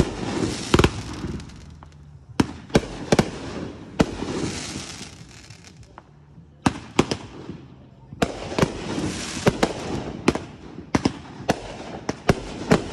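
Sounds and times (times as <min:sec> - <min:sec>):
firework bangs: 0:00.0 - 0:12.9
fireworks crackling and fizzing: 0:00.0 - 0:12.9.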